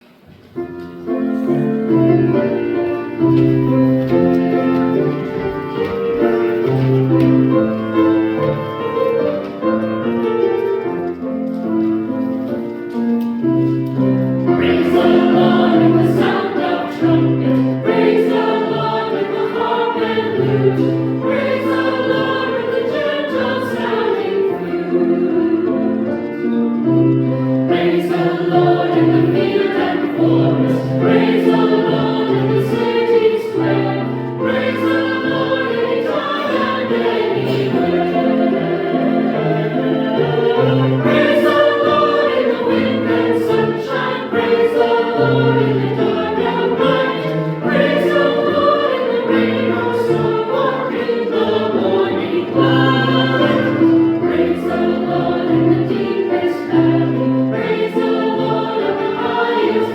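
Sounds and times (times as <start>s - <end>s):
piano accompaniment: 0.0s - 59.9s
church choir singing: 0.1s - 59.9s.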